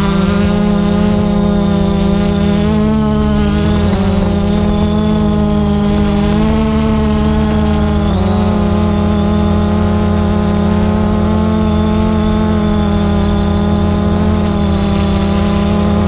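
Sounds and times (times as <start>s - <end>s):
drone propellers whirring: 0.0s - 16.0s.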